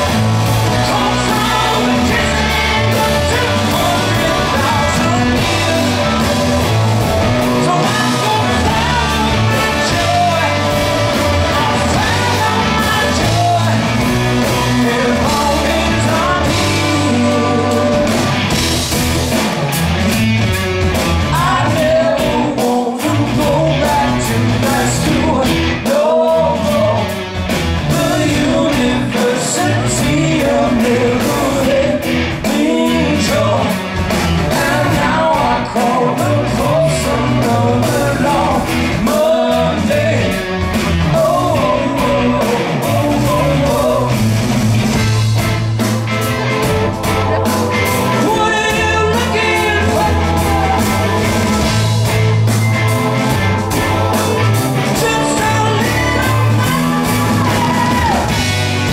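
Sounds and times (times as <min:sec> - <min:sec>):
man singing: 0:00.0 - 0:06.7, 0:07.4 - 0:18.4, 0:21.3 - 0:27.2, 0:27.9 - 0:33.8, 0:34.4 - 0:40.4, 0:41.0 - 0:44.3, 0:47.2 - 0:51.9, 0:54.2 - 0:58.4
heavy guitar riff: 0:00.0 - 0:58.9
rock band playing: 0:00.0 - 0:58.9.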